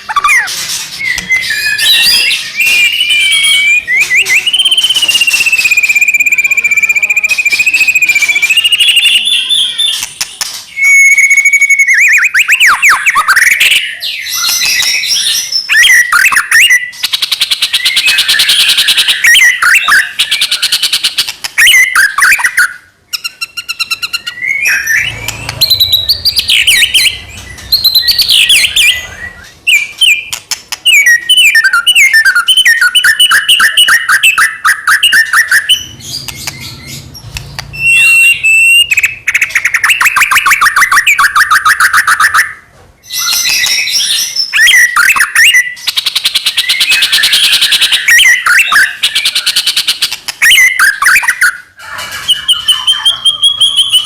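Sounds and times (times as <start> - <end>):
bird singing loudly: 0.0 - 54.0.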